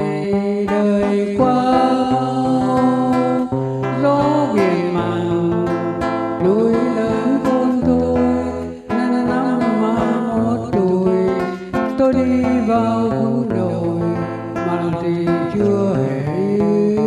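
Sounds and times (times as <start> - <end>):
man singing into microphone: 0.0 - 17.0
plucked acoustic guitar: 0.0 - 17.0.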